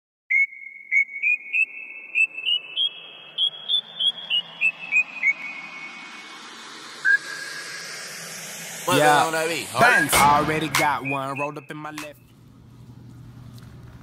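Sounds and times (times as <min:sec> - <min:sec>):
high whistle-like tune: 0:00.3 - 0:12.3.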